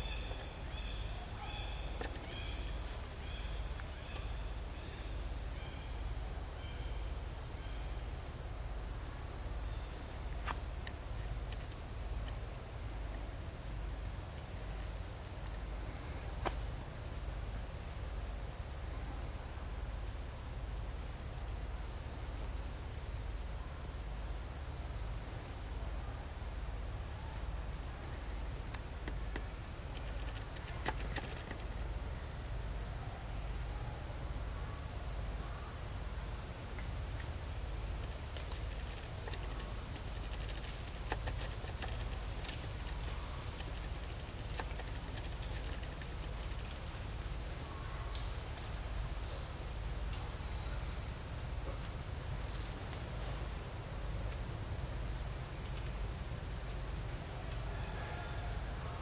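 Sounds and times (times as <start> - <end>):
insects trilling: 0.0 - 17.8, 18.6 - 59.0.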